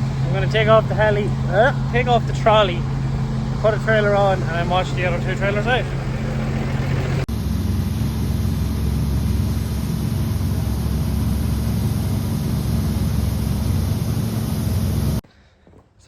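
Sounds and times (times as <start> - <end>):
heavy machinery engine rumbling: 0.0 - 15.2.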